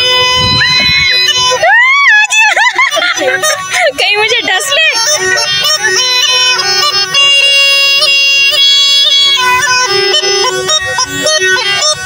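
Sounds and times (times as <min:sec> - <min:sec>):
reed pipe drone and melody: 0:00.0 - 0:12.0.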